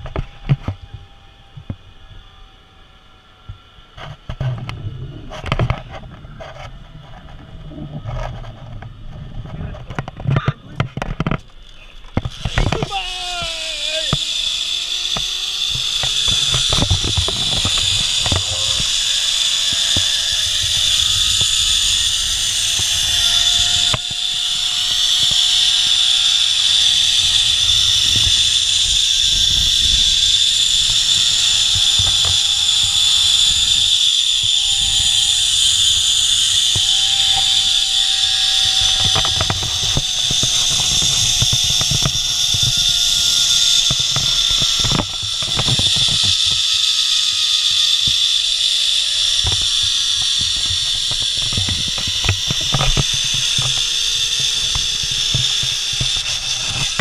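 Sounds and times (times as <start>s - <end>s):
zipline pulleys whining on cable: 0.0s - 57.0s.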